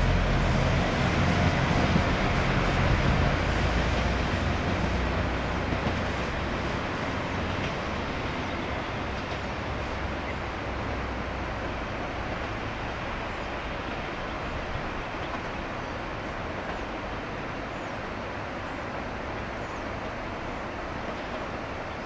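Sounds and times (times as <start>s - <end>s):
diesel train engine pulling away: 0.0s - 22.0s.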